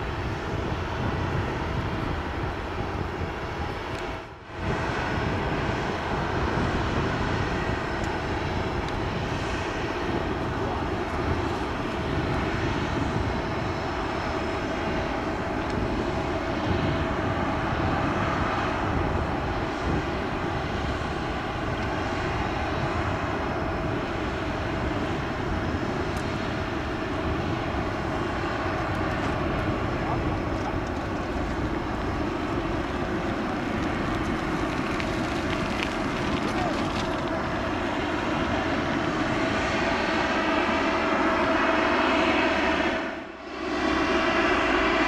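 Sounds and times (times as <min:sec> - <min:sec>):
aircraft engine drone: 0:00.0 - 0:45.0
wind rumble on microphone: 0:00.0 - 0:45.0.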